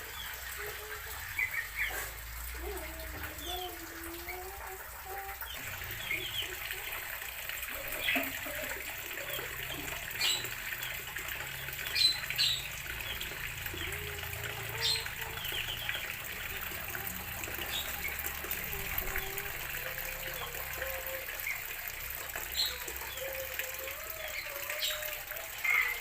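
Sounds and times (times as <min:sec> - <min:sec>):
small birds chirping: 0:00.0 - 0:06.9, 0:07.7 - 0:19.6, 0:22.5 - 0:26.0.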